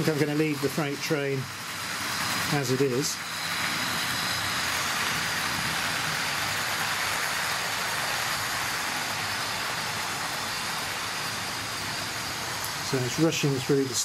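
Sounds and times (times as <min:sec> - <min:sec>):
model trains running on rails: 0:00.0 - 0:14.0.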